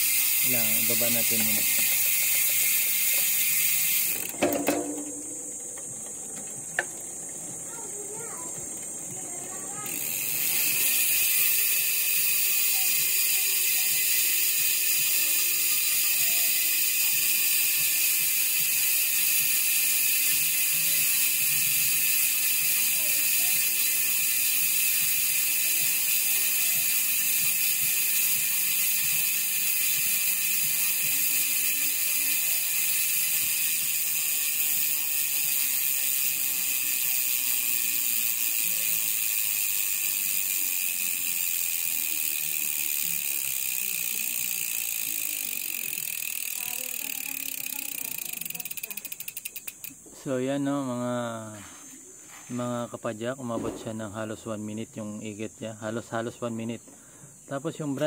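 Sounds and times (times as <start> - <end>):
freehub ratchet clicking: 0.0 - 50.0.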